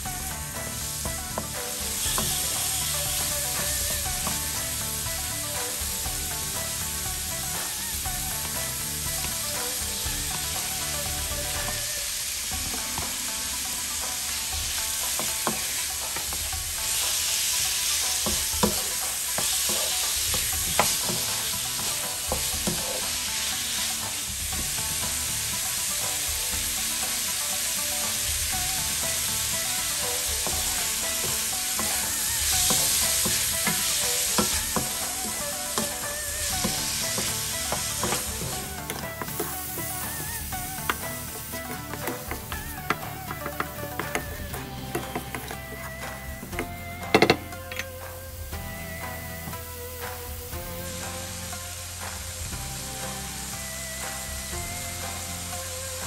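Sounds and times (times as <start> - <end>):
shrimp sizzling in a pan: 0.0 - 56.0
wooden spatula scraping a pan: 0.5 - 7.0, 7.6 - 46.3.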